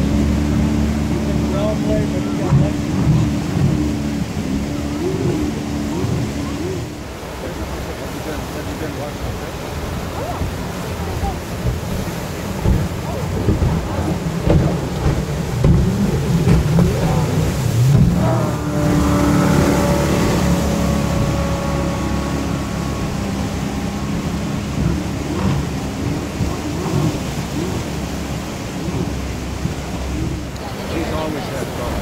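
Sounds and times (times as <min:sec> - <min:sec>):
jet boat engine rumble and whine: 0:00.0 - 0:32.0
rushing whitewater: 0:00.0 - 0:32.0.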